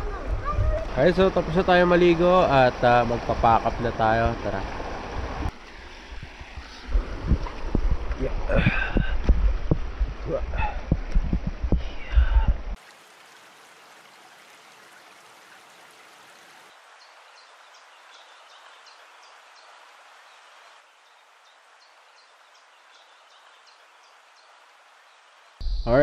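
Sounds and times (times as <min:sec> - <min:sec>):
flowing river hiss: 0:00.8 - 0:10.8, 0:11.8 - 0:25.6.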